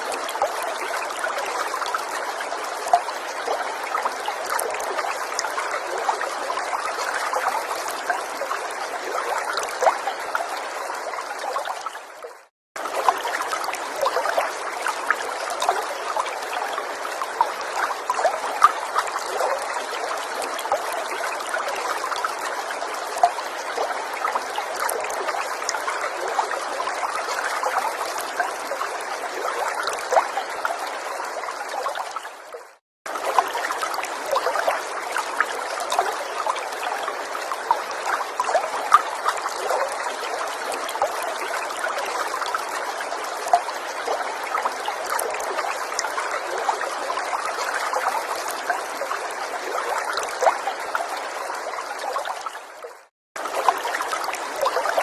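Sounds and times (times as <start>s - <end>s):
forest stream trickling: 0.0s - 55.0s.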